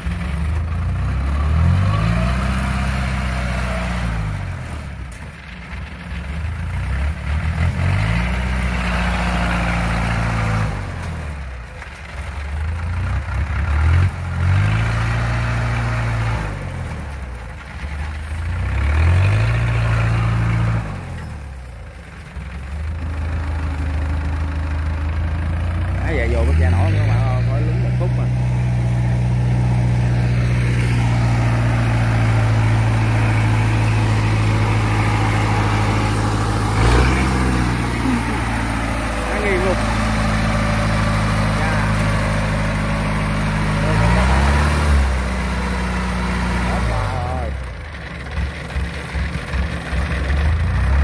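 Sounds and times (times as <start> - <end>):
engine revving under load: 0.0 - 5.2, 6.2 - 21.7, 22.3 - 51.0.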